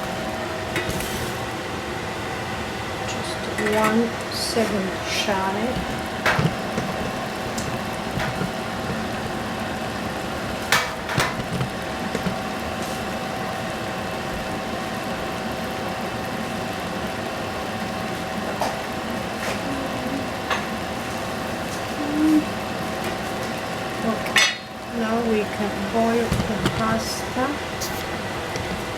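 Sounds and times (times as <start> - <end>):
stove-top hum: 0.0 - 28.9.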